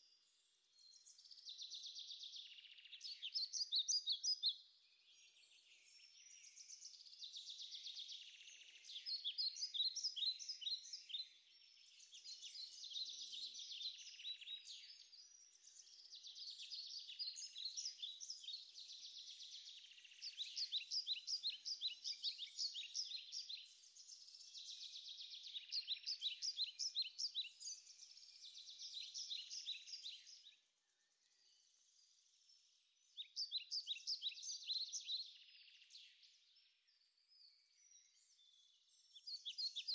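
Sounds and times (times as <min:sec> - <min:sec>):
birds singing high chirps: 0:00.0 - 0:39.9.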